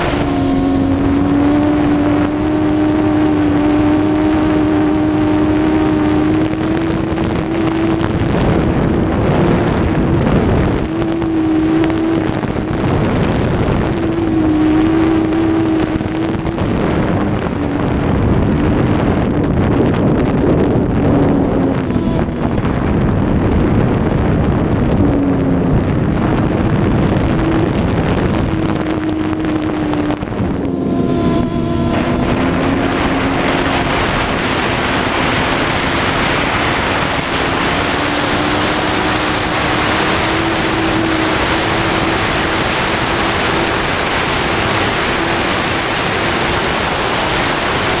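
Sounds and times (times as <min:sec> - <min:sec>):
drone motors humming: 0:00.0 - 0:48.0
wind buffeting microphone: 0:00.0 - 0:48.0.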